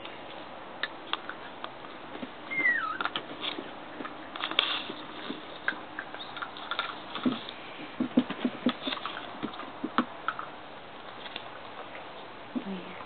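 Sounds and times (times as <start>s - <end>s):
paws and claws tapping: 0.8s - 12.1s.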